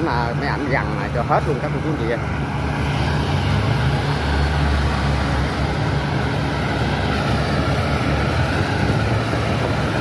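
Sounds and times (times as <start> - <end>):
combine harvester engine drone: 0.0 - 10.0.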